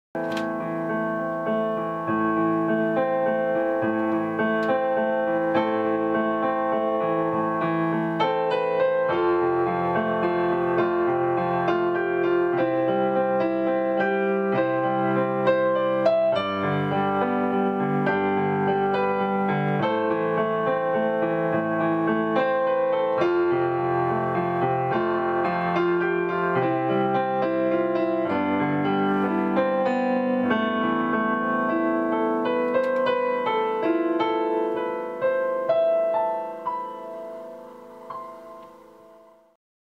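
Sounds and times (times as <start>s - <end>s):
solo piano piece: 0.2s - 39.6s.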